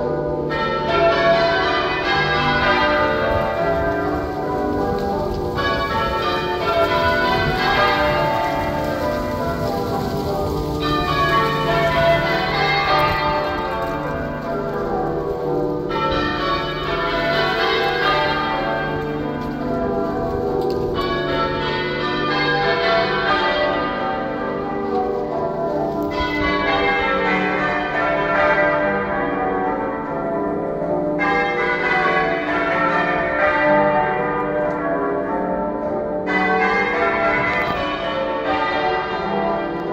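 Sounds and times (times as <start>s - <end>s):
half-muffled church bells ringing: 0.0s - 39.9s.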